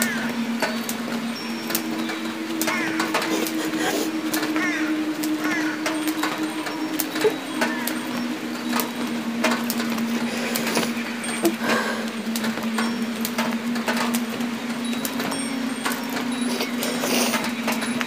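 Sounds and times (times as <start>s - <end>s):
low steady hum: 0.0s - 18.0s
sharp clicks and crackles: 0.0s - 18.0s.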